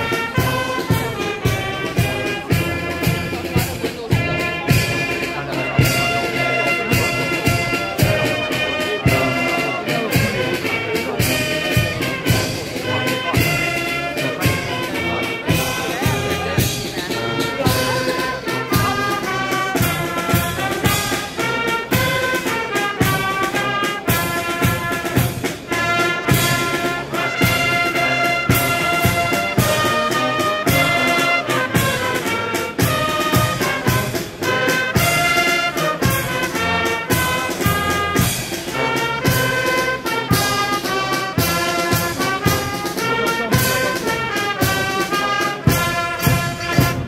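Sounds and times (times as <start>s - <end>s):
brass band playing: 0.0s - 47.0s
steady drum beat: 0.0s - 47.0s.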